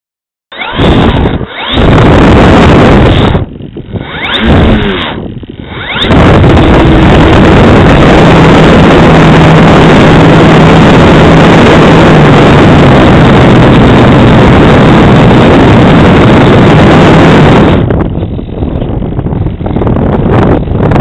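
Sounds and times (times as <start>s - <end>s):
wind rushing over microphone: 0.5s - 21.0s.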